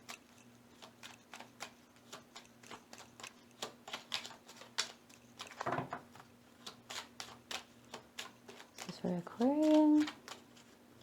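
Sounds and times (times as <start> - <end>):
cards rustling: 0.0 - 11.0
cards being shuffled: 0.1 - 11.0.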